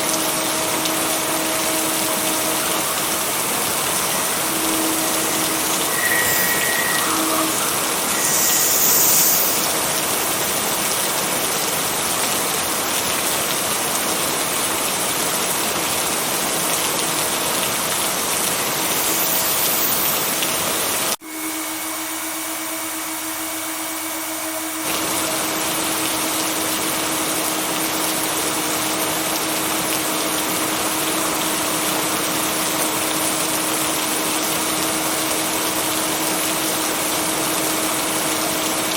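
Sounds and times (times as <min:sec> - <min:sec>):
heavy rain: 0:00.0 - 0:21.2, 0:24.8 - 0:38.9.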